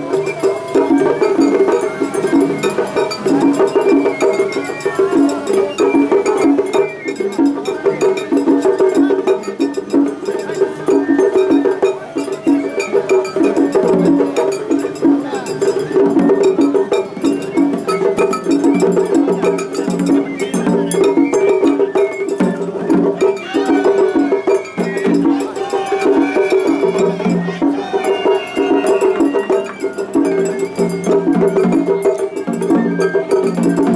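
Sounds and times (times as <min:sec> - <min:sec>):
steady drum strokes: 0:00.0 - 0:33.9.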